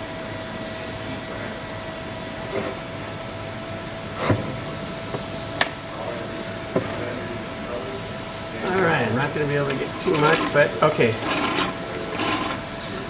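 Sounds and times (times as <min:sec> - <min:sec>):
electric oil pump whining: 0:00.0 - 0:13.0.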